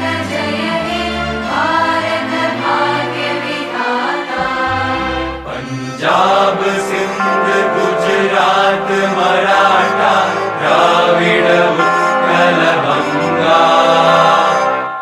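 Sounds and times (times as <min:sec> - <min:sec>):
large choir singing: 0:00.0 - 0:15.0.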